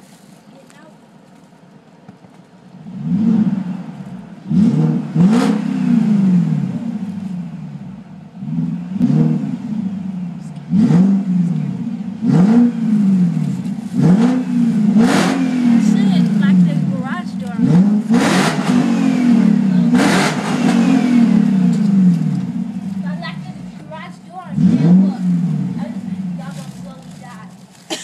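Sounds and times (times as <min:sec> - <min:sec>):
car engine revving in throttle blips: 0:02.8 - 0:27.0.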